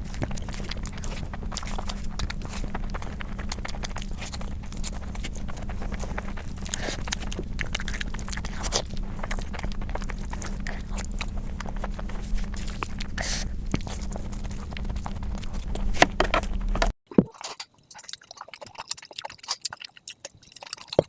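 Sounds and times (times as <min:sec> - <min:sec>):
wet mouth clicks: 0:00.0 - 0:15.9, 0:17.1 - 0:21.0
person chewing: 0:00.0 - 0:21.0
steady low hum: 0:00.0 - 0:21.0.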